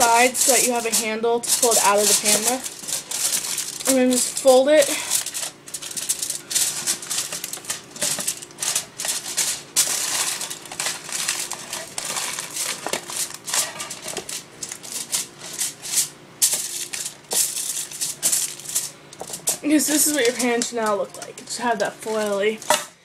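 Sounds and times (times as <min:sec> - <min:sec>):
aluminium foil crinkling: 0:00.0 - 0:22.8.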